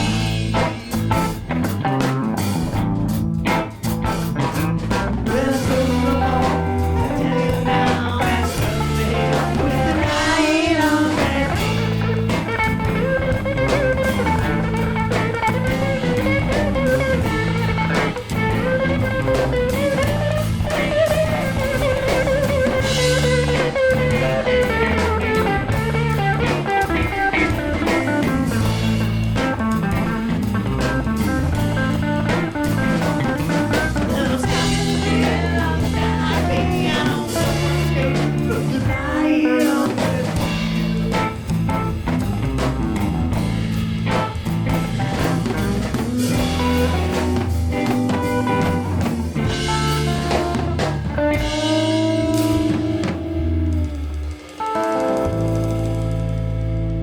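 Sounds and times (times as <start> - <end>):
bass: 0.0 - 57.0
drums: 0.0 - 57.0
lead guitar: 0.0 - 57.0.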